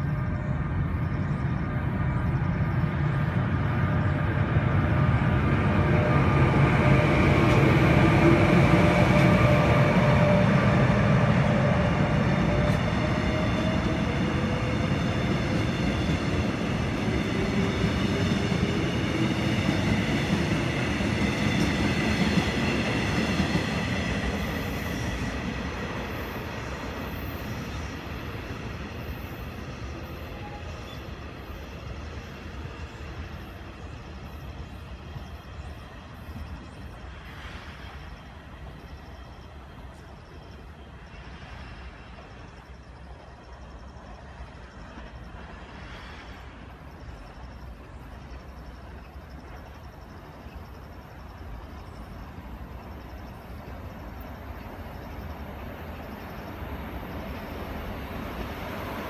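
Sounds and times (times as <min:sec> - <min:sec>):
electric train running past: 0:00.0 - 0:59.0
train whine: 0:00.0 - 0:59.0.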